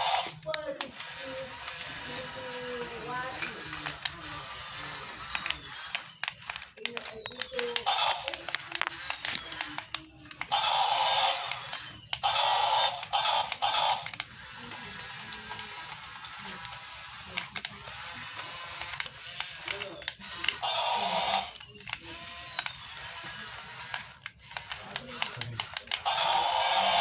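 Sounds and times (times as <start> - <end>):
clicks: 0.0 - 27.0
small electric motors whirring: 0.0 - 27.0.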